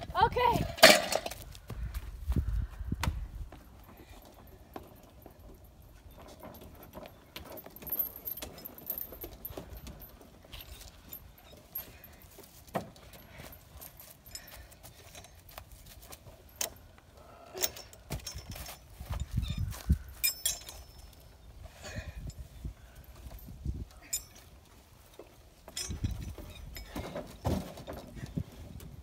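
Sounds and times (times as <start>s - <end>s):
metal chains jangling: 3.8s - 28.3s.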